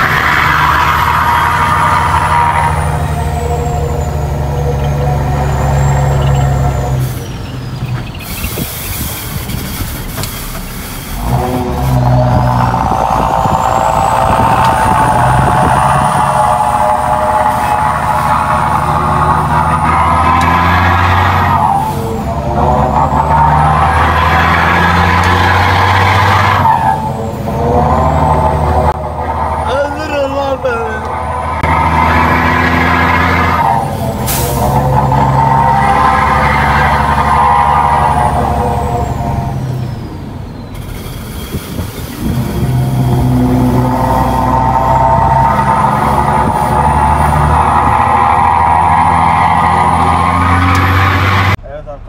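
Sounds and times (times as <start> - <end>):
truck diesel engine from cab: 0.0 - 52.0.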